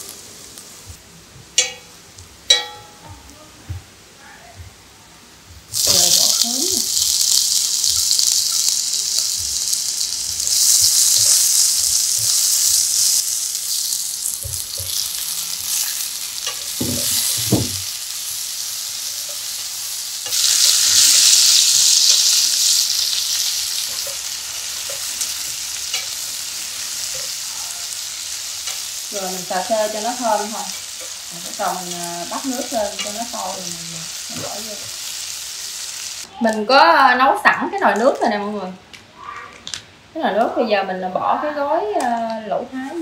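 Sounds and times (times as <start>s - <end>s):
food sizzling in hot oil: 0.0s - 1.0s, 1.6s - 3.3s, 5.7s - 39.3s.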